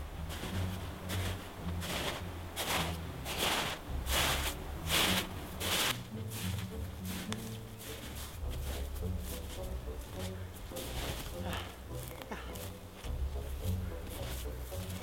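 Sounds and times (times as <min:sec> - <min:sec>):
low rumble: 0:00.0 - 0:14.7
footsteps crunching in snow: 0:00.0 - 0:15.0.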